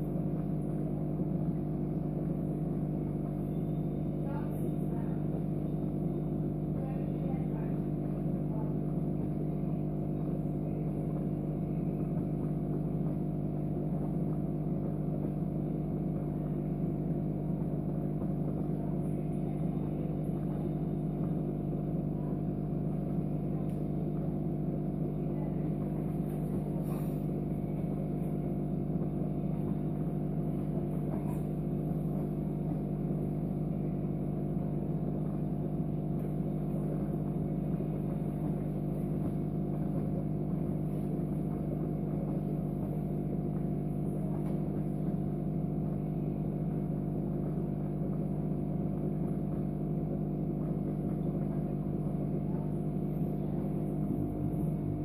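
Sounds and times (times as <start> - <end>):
electrical hum and buzz: 0.0 - 55.0.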